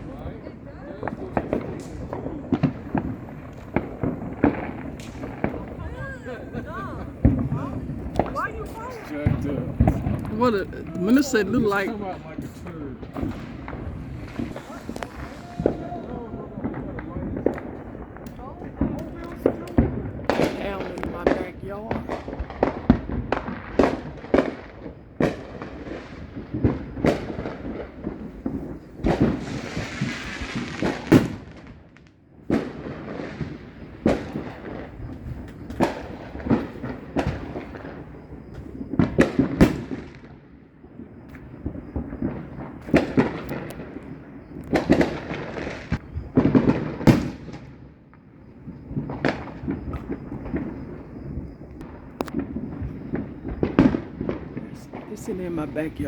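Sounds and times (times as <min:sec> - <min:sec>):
fireworks bangs and booms: 0:00.0 - 0:56.0
fireworks crackling: 0:00.0 - 0:56.0.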